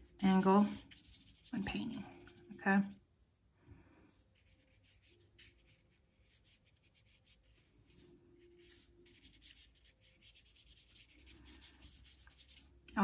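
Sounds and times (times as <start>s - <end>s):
paintbrush scratching on paper: 0.0s - 3.0s, 4.3s - 12.9s.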